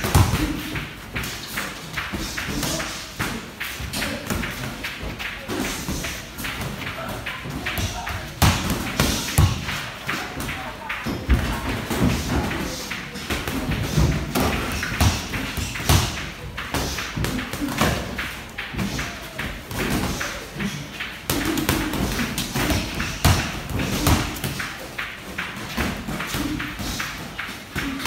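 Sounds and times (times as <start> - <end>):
boxing gloves punching: 0.0 - 10.6, 11.3 - 28.0.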